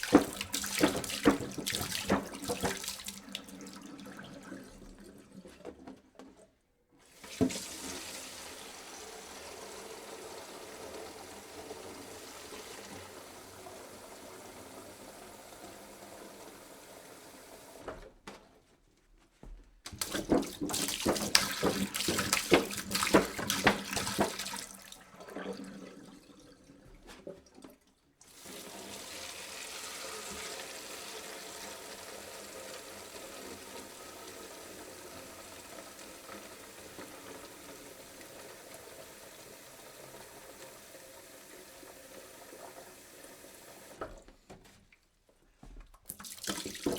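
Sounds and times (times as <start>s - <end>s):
water pouring into a jug: 0.0s - 5.5s, 7.1s - 17.1s, 20.0s - 44.2s, 46.1s - 46.9s.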